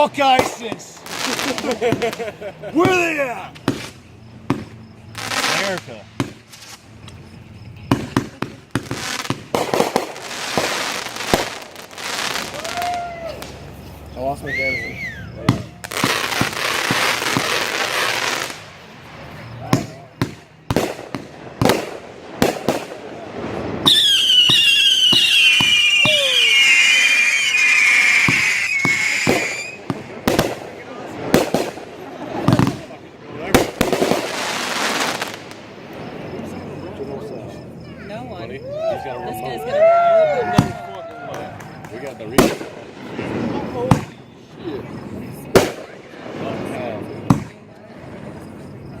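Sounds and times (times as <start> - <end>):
fireworks bangs: 0.0 - 37.1, 39.8 - 48.4
fireworks crackling: 0.0 - 49.0.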